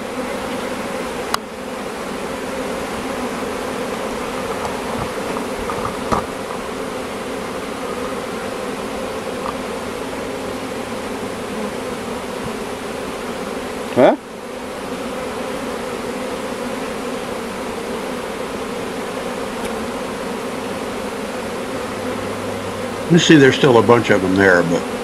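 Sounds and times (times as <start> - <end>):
honeybee swarm buzzing: 0.0 - 25.0.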